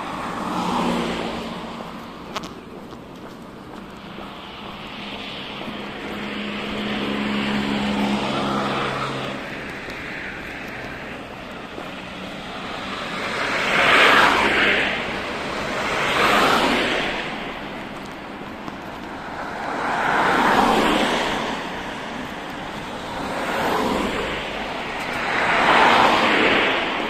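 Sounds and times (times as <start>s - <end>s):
cars passing close by: 0.0s - 27.0s
vehicle engine humming: 0.0s - 27.0s.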